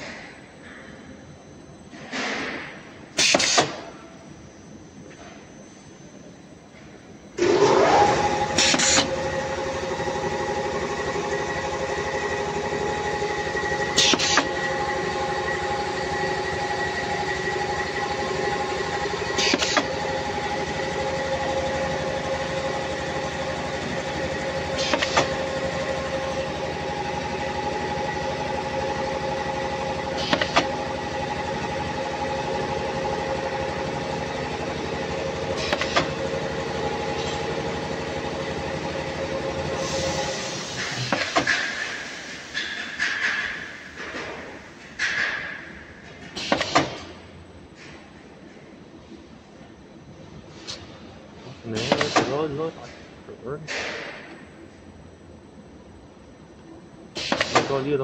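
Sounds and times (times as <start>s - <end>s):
machine motor hum: 0.2s - 58.0s.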